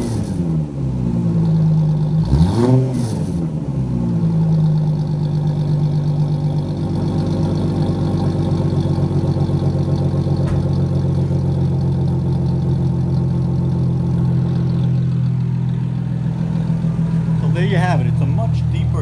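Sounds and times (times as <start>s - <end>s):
car engine idling with deep exhaust: 0.0s - 19.0s.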